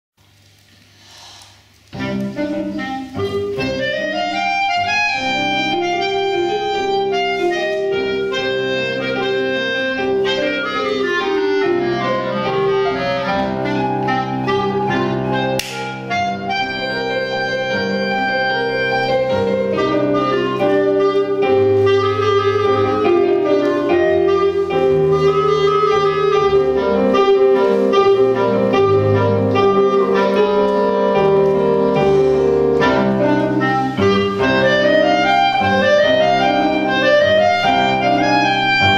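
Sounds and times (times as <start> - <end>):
piano accompaniment: 0.2 - 38.9
clarinet melody: 1.7 - 38.9.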